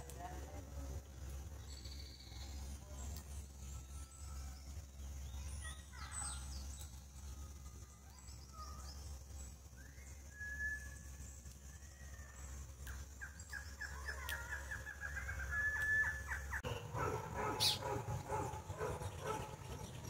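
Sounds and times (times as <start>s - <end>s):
songbirds calling: 0.0s - 20.0s.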